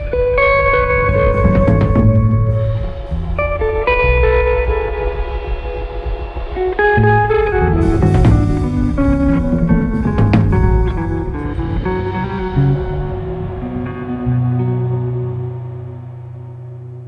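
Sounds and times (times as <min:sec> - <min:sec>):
instrumental guitar music: 0:00.0 - 0:17.0.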